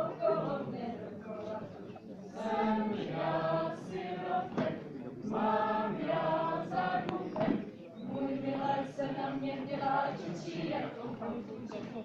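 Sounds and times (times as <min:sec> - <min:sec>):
women singing a folk song: 0:00.0 - 0:12.0.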